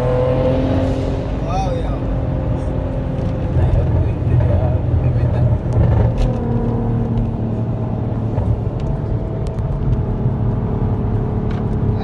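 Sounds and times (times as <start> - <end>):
car engine rumbling: 0.0 - 12.0
road noise: 0.0 - 12.0.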